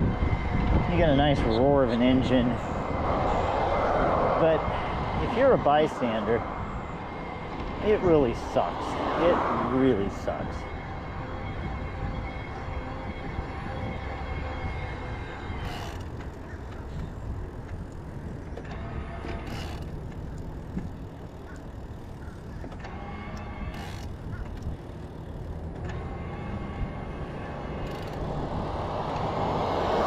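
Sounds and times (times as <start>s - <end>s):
low wind rumble on microphone: 0.0s - 30.0s
road traffic passing: 0.0s - 30.0s.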